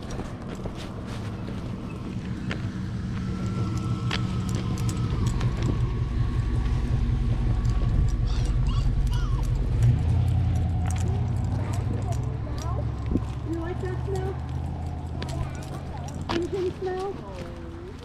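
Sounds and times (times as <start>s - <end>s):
vehicle engine rumble approaching: 0.0s - 18.0s.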